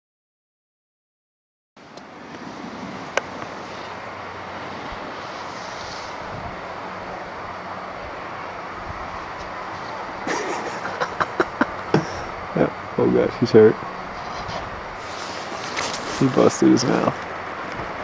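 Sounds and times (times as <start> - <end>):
steady outdoor rushing noise: 1.8 - 18.0.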